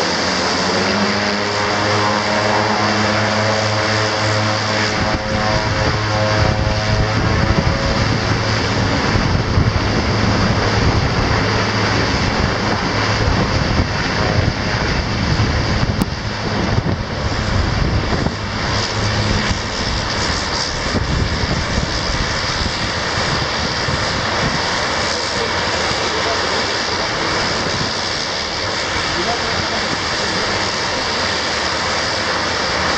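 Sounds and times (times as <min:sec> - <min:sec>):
turboprop airliner taking off: 0:00.0 - 0:32.9.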